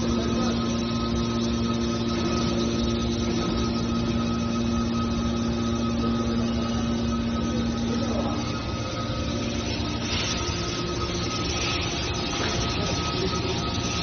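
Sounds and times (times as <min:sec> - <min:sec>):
hydraulic pump and motor hum: 0:00.0 - 0:14.0.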